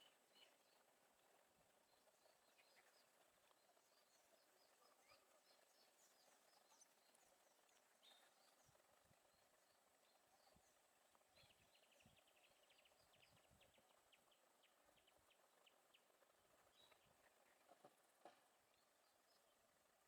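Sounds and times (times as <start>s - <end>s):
faint bird chirps: 0.0s - 17.9s.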